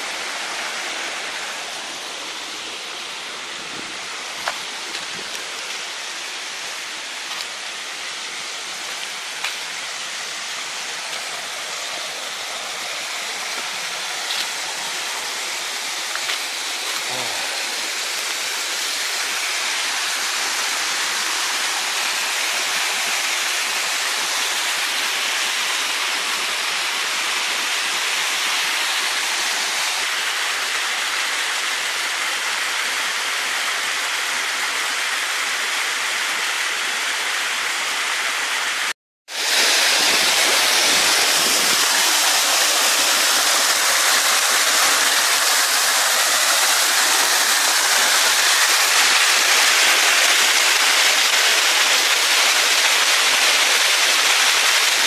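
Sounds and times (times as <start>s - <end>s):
waterfall rushing and splashing: 0.0s - 55.0s.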